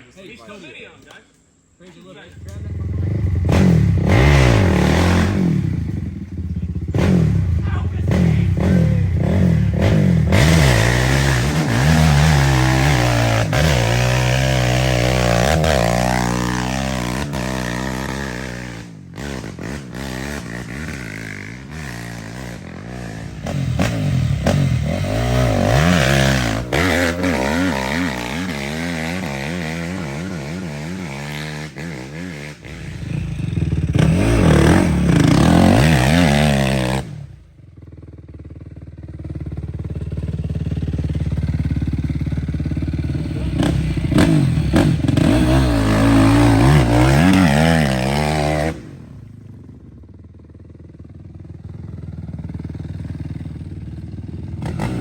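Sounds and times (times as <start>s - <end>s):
dirt bike engine revving: 2.1s - 50.0s, 51.0s - 55.0s.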